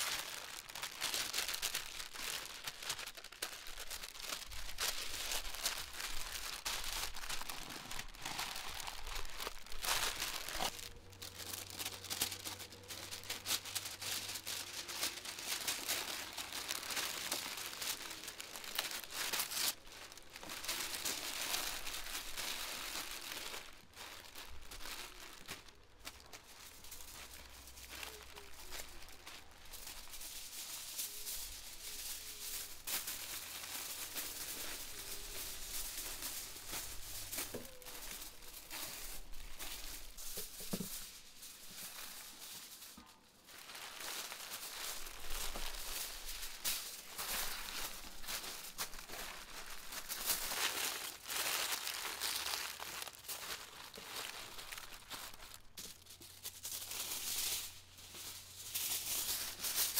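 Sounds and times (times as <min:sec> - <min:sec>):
paper and foil crinkling: 0:00.0 - 0:59.9.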